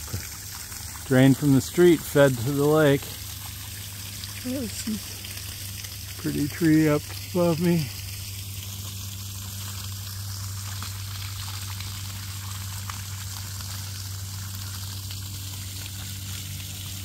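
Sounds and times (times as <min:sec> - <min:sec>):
water running and trickling: 0:00.0 - 0:17.0.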